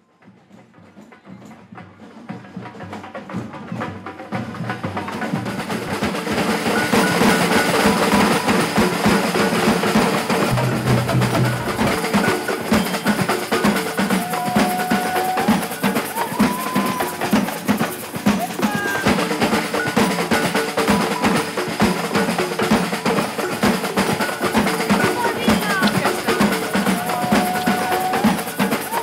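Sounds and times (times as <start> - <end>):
parade drum band: 0.1 - 29.0.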